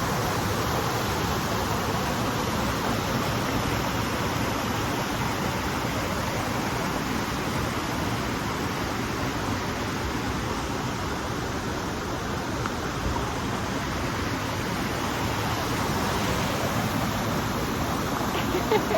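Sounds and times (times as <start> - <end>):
water rushing: 0.0 - 18.9.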